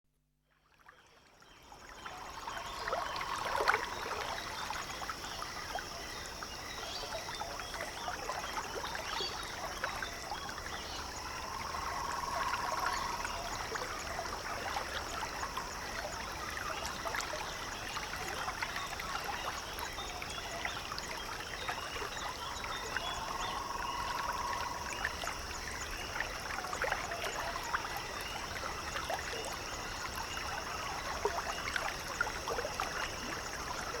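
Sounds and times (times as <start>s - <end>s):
water lapping and trickling: 0.5s - 34.0s.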